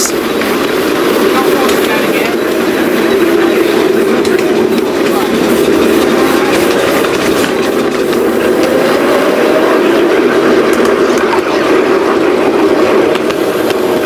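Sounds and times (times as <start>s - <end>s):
miniature locomotive on rails: 0.0s - 14.0s.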